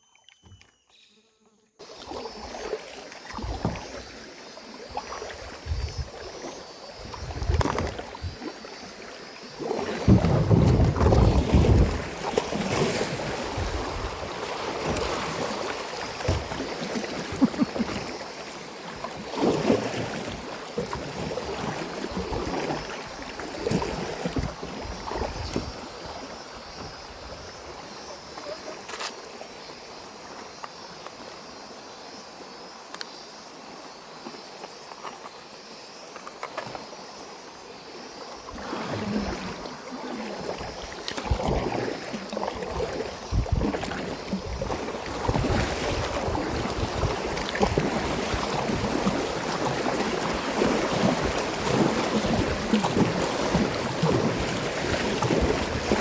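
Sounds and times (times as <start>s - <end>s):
water sloshing and splashing: 1.8s - 29.4s, 36.2s - 37.0s, 38.2s - 56.0s.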